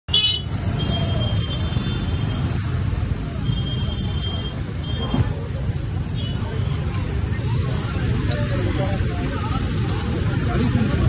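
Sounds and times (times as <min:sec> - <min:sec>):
motorcycle engines: 0:00.1 - 0:11.0
traffic rumble: 0:00.1 - 0:11.0
people's voices: 0:00.7 - 0:11.0.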